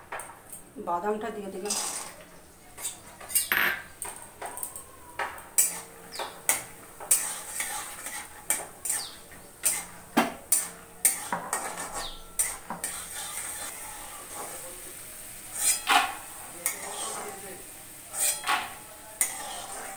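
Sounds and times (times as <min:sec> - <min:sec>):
spoon scraping metal pan: 0:01.6 - 0:04.7, 0:05.6 - 0:14.6, 0:15.4 - 0:19.9.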